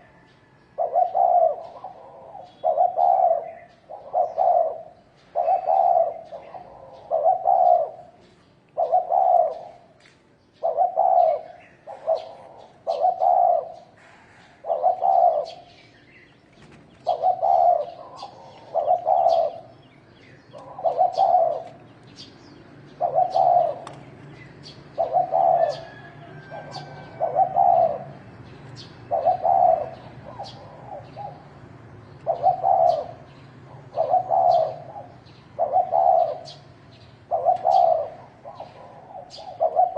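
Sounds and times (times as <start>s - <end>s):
dove cooing: 0.0s - 10.0s, 10.6s - 15.8s, 16.6s - 39.9s
small birds chirping: 0.0s - 39.9s.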